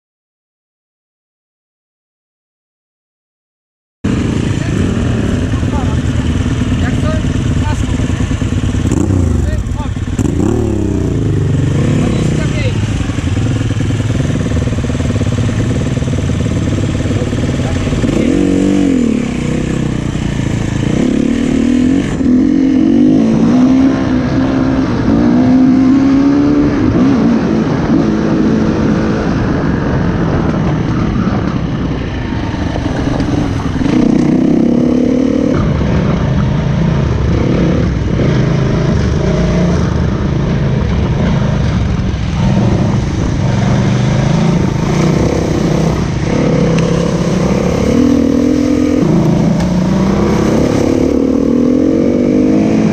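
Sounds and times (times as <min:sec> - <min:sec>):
motorcycle engine revving: 0:04.0 - 0:52.9.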